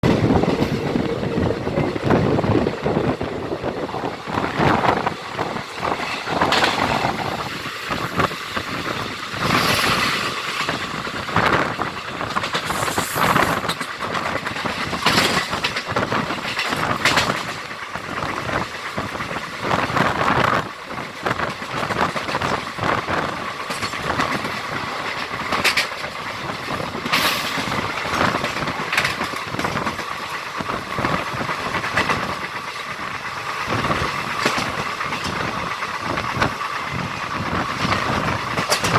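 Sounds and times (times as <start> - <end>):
rush of wind: 0.0 - 38.9
train wheels clattering on track: 0.0 - 38.9.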